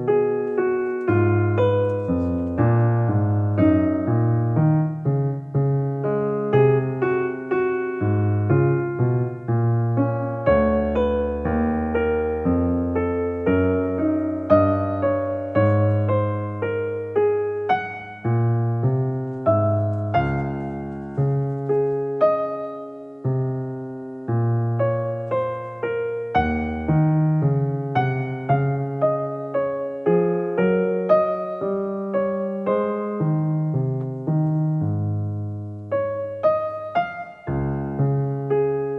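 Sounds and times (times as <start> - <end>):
slow piano music: 0.0 - 38.9.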